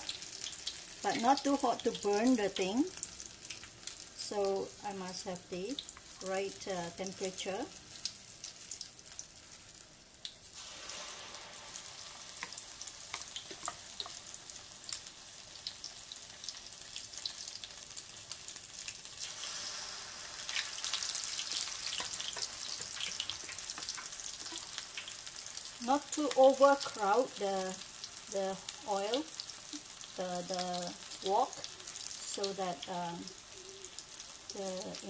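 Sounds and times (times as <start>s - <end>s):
batter sizzling in hot oil: 0.0s - 35.0s.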